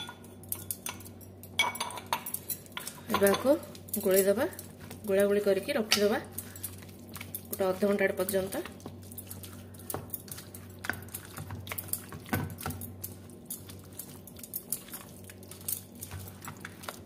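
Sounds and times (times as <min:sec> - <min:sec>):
wet squelching of mixing: 0:02.3 - 0:17.0.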